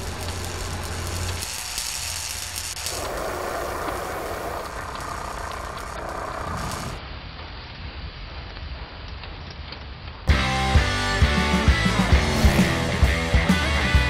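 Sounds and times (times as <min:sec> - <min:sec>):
sparks and flame crackling: 0:00.0 - 0:10.3, 0:11.7 - 0:13.9.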